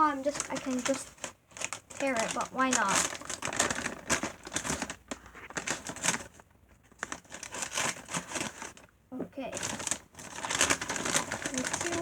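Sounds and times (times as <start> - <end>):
wrapping paper crinkling: 0.0 - 8.9, 9.5 - 12.0.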